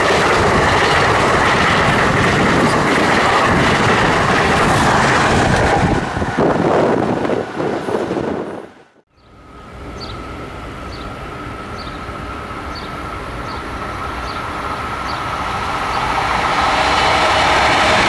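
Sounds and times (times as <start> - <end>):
high hum from rails: 0.0 - 18.0
passenger train rumble: 0.0 - 18.0.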